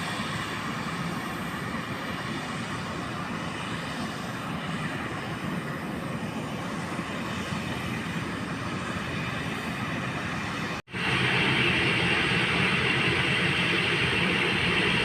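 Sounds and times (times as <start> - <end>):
airplane engine noise: 0.0 - 15.0.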